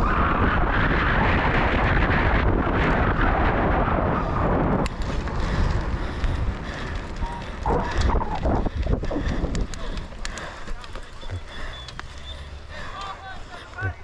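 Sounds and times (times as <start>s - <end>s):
tyre and trail noise: 0.0s - 14.0s
wind buffeting microphone: 0.0s - 14.0s.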